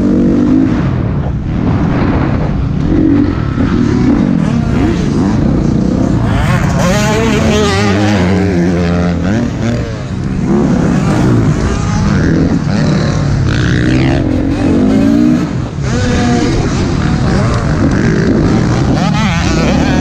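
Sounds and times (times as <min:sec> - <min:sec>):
dirt bike engine revving: 0:00.0 - 0:20.0
other race bikes: 0:00.0 - 0:20.0.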